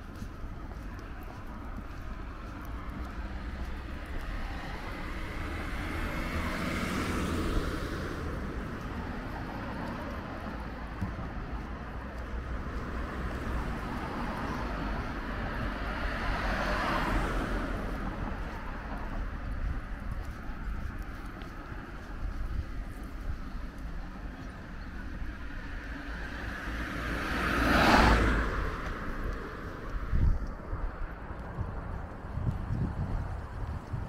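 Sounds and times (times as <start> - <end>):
low wind rumble: 0.0 - 34.0
vehicles passing: 0.0 - 34.0.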